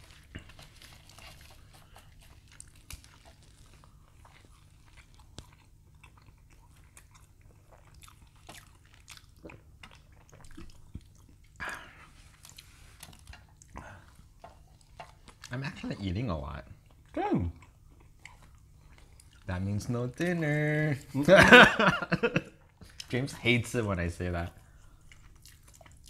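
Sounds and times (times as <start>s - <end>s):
people chewing with wet mouth clicks: 0.0s - 20.7s, 22.4s - 23.3s, 24.4s - 26.0s.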